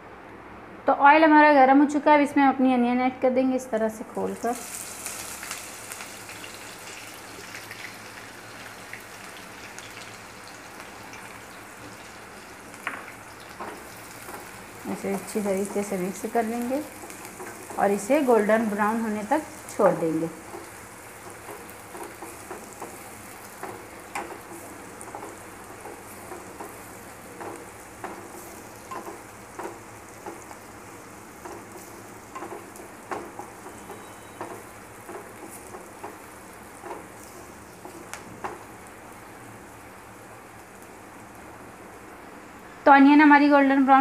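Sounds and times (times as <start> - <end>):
onions sizzling in hot oil: 4.2 - 43.4.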